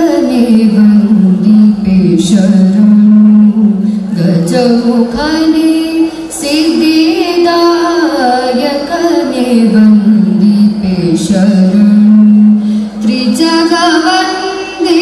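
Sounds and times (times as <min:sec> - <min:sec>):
woman singing with music: 0:00.0 - 0:15.0.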